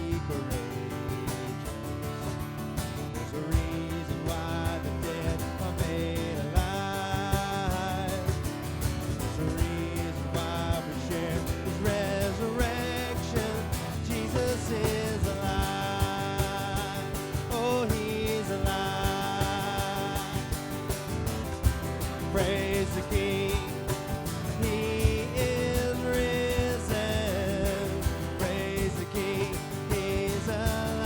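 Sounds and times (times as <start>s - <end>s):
drums keeping a steady beat: 0.0s - 31.0s
guitars: 0.0s - 31.0s.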